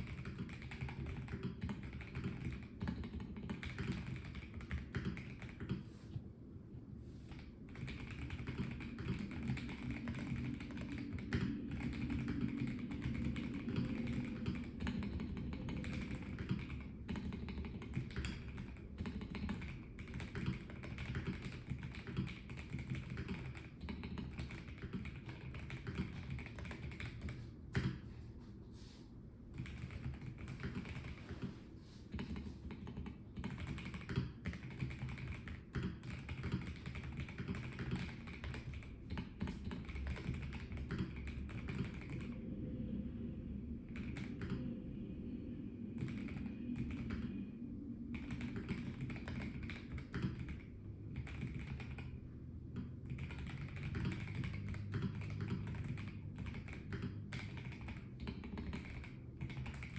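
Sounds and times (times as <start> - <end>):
mechanical keyboard typing: 0.0 - 5.9, 7.3 - 28.0, 29.6 - 31.5, 32.1 - 42.4, 43.9 - 44.6, 46.0 - 47.3, 48.1 - 59.9.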